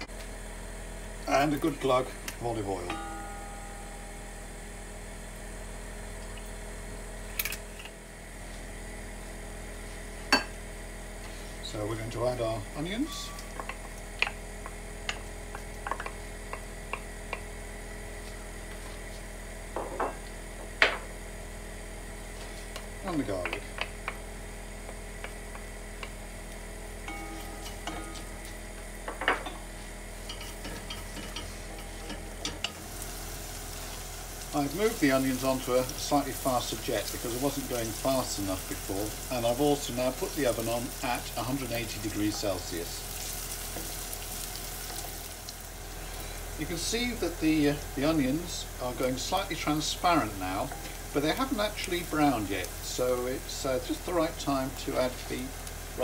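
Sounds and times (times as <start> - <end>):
gas burner hum and hiss: 0.0 - 56.0
onions sizzling in oil: 4.2 - 56.0.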